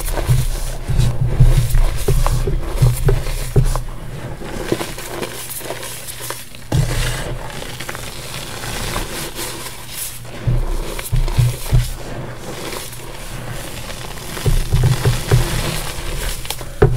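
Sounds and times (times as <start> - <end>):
gritty chalk crunching: 0.0 - 16.9.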